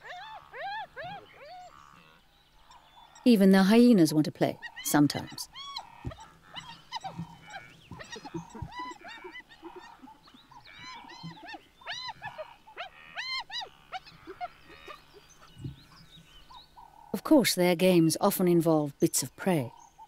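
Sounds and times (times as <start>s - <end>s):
hyenas calling: 0.0s - 17.2s.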